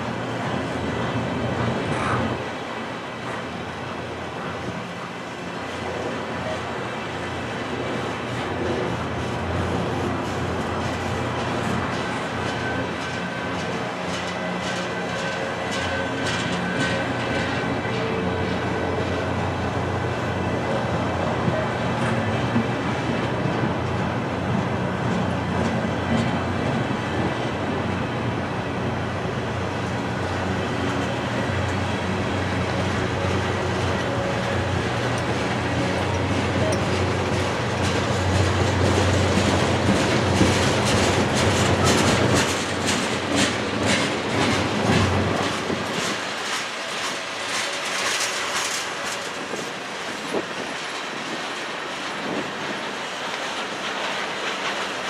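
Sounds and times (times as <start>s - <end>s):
steel wheels rumbling on rail: 0.0s - 55.0s
wheels clacking over rail joints: 4.2s - 28.2s, 28.8s - 55.0s.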